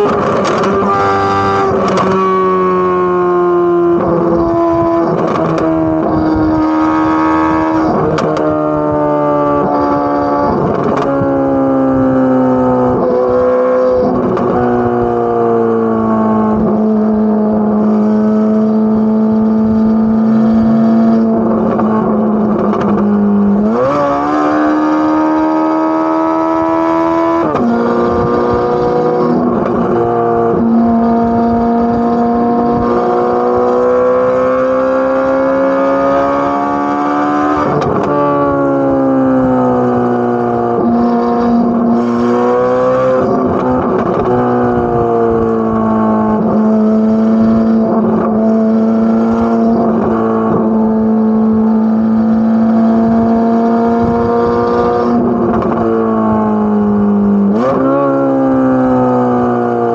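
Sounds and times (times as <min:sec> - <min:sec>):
sports car exhaust droning: 0:00.0 - 0:59.9.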